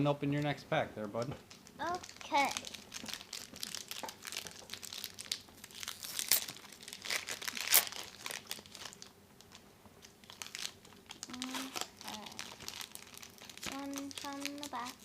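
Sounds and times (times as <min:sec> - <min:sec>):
foil wrapper tearing and crinkling: 0:01.5 - 0:15.0.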